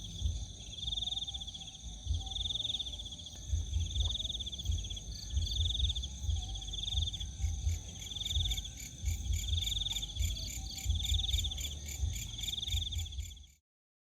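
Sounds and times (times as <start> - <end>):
high insect trill: 0.0 - 13.6
low microphone rumble: 0.0 - 13.6
pulsed insect chirp: 0.0 - 13.6.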